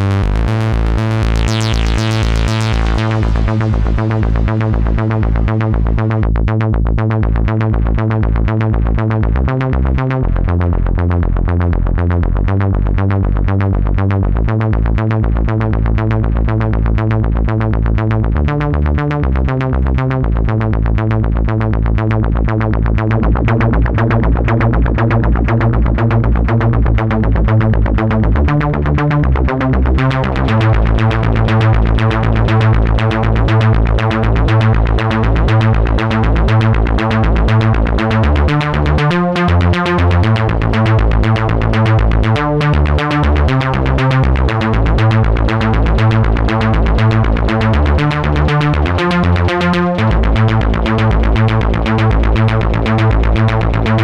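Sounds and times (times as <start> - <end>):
synth bass stepping pitches: 0.0 - 54.0
synthesizer playing fast pattern: 0.0 - 54.0.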